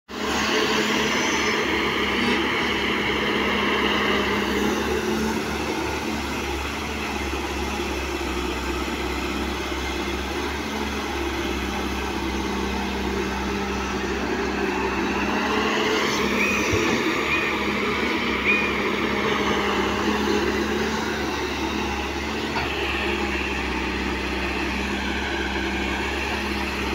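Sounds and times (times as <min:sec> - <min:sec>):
diesel engine running under load: 0:00.1 - 0:26.9.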